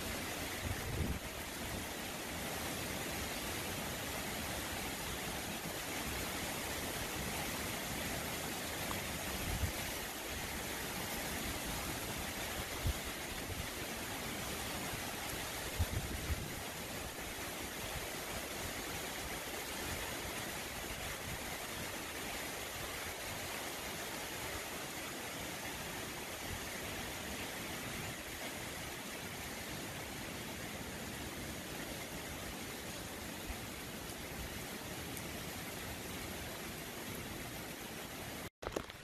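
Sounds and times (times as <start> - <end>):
wind and heavy rain hissing: 0.0 - 39.0.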